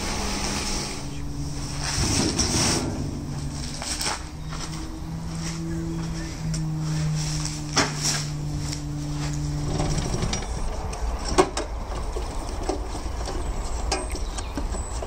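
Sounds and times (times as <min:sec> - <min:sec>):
steady hum: 0:00.0 - 0:13.3
diesel engine idling: 0:00.0 - 0:15.0.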